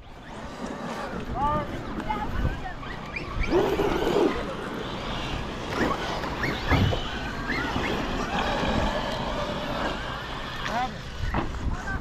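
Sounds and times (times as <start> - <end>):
electric motors whining: 0.0 - 12.0
wind noise on microphone: 0.0 - 12.0.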